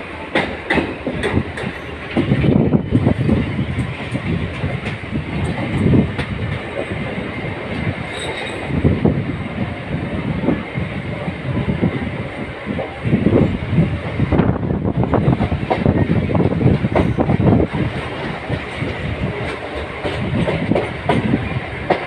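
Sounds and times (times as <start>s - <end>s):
train rumbling on track: 0.0s - 22.0s
train wheel clatter: 0.0s - 22.0s.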